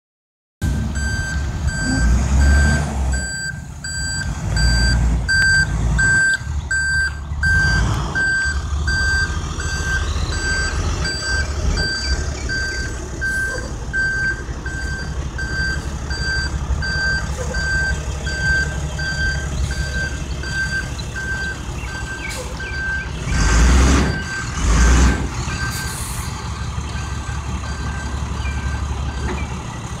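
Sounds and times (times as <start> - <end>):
truck engine rumble: 0.6 - 30.0
truck reversing alarm beeping: 0.6 - 30.0.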